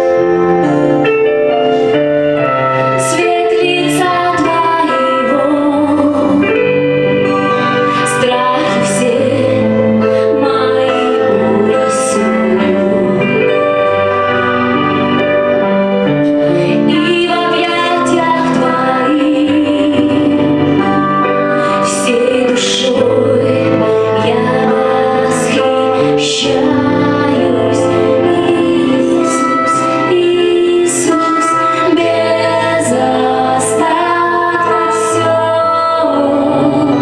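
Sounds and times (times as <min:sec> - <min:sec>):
instrumental backing: 0:00.0 - 0:37.0
woman singing: 0:03.0 - 0:14.2, 0:16.4 - 0:37.0.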